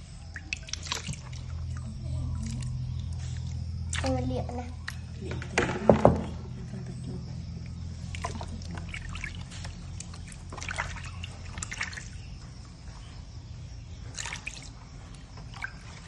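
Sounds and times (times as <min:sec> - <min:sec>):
low steady hum: 0:00.0 - 0:16.0
water splashing in a plastic tub: 0:00.0 - 0:16.0.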